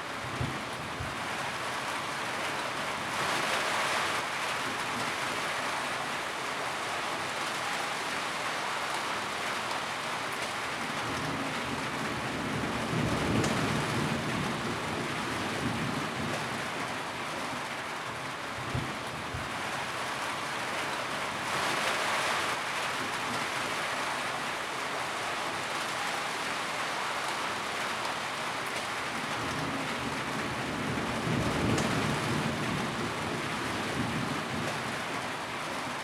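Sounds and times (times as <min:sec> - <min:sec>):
rain drumming on a tin roof: 0:00.0 - 0:36.0.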